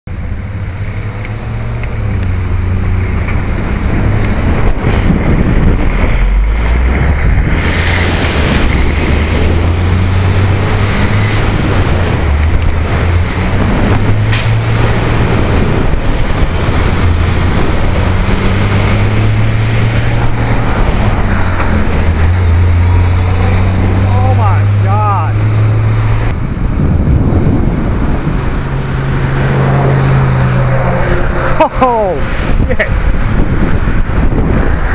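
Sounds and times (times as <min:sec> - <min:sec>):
wind and road noise: 0:00.0 - 0:34.9
truck diesel engine drone: 0:00.1 - 0:34.9.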